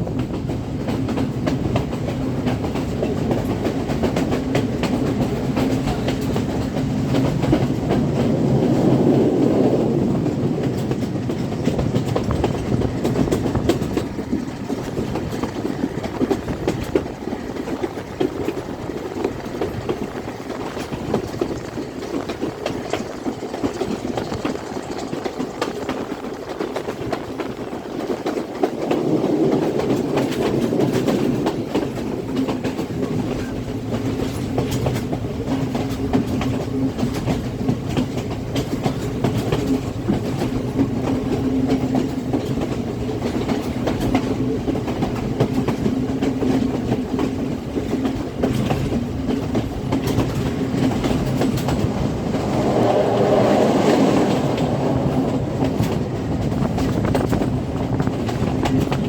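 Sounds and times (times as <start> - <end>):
train rumble: 0.0 - 59.0
train wheels clattering: 0.0 - 59.0.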